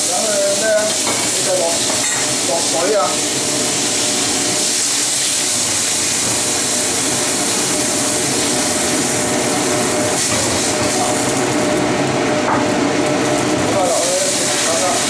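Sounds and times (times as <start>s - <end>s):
water hissing in a hot wok: 0.0s - 15.0s.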